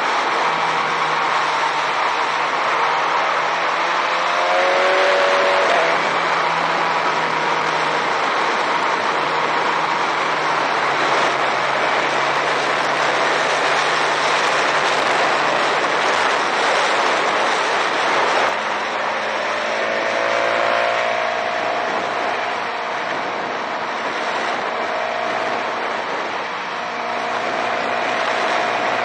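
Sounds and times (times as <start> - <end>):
wind rush on camera: 0.0 - 29.0.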